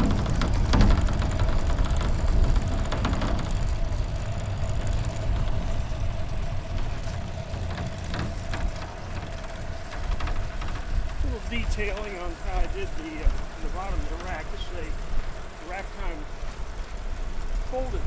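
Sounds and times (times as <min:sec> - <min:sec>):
windshield rattling against mount: 0:00.0 - 0:16.9
road rumble: 0:00.0 - 0:18.0
steady wind: 0:00.0 - 0:18.0.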